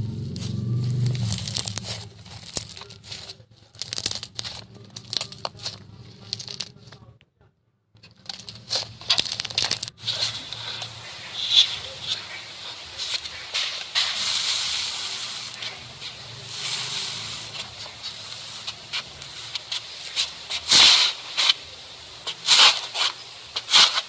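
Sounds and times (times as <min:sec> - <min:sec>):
crunchy slime crackling: 0:00.0 - 0:07.0, 0:08.1 - 0:24.0.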